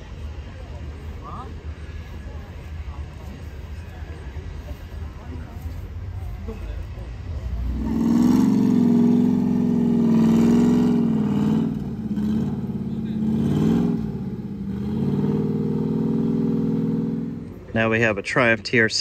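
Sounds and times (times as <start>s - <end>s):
car engine running at low revs: 2.0s - 19.0s.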